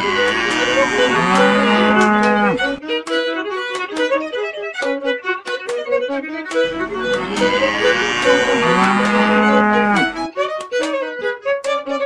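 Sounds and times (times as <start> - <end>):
violin music: 0.0 - 12.0.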